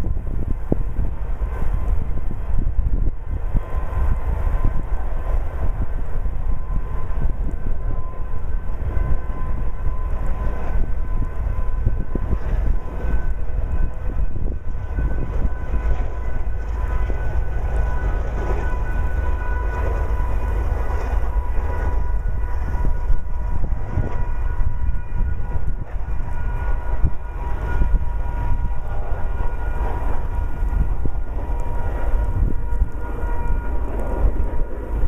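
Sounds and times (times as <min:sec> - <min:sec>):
freight train rumbling on rails: 0:00.0 - 0:35.0.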